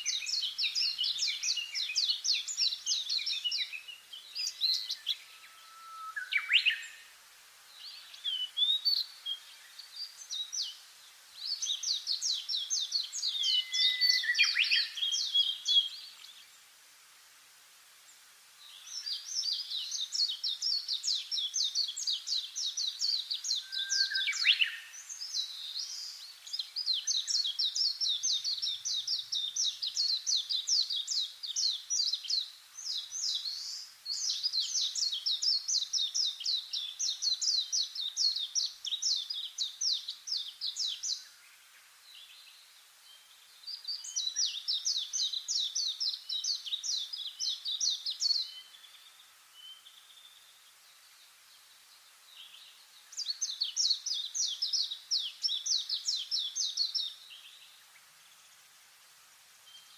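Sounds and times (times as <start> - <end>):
bird chirping: 0.0 - 16.7, 18.6 - 58.7, 59.6 - 59.9.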